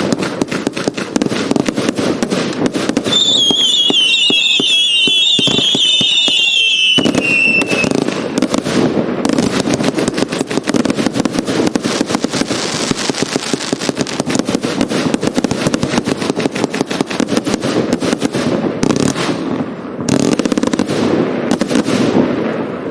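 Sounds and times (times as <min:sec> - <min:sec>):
whistling firework shells: 0:00.0 - 0:18.5
firework pops and bangs: 0:00.0 - 0:22.9.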